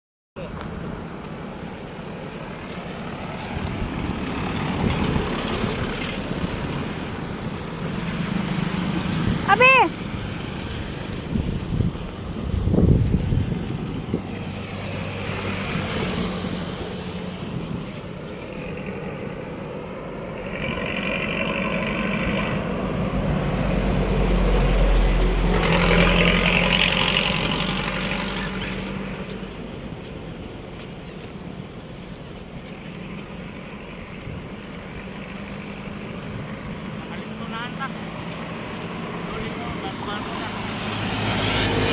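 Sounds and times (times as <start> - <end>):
heavy vehicle engine rumble: 0.4 - 41.9
road traffic passing: 0.4 - 41.9.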